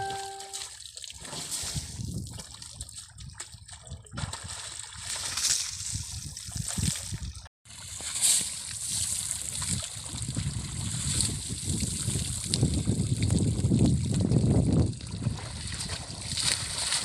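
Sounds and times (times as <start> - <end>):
water sloshing and splashing: 0.5 - 17.0.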